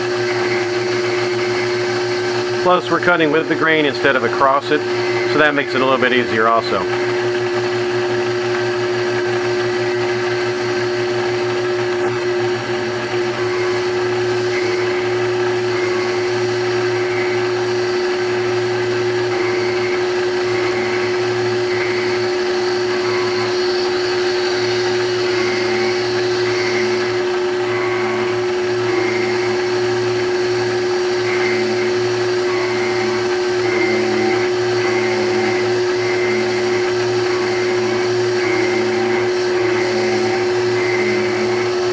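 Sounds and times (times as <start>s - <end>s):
lathe cutter hum and whine: 0.0s - 41.9s
faint pulsing of cutter: 0.3s - 7.5s, 11.5s - 41.9s.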